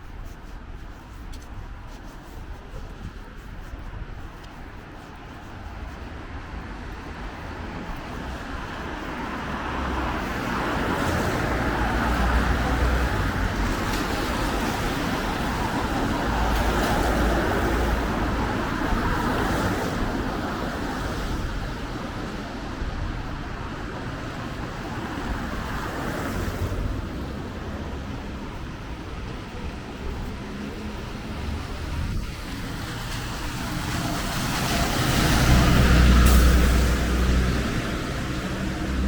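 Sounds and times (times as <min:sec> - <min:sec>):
cars passing on wet asphalt: 0:00.0 - 0:39.0.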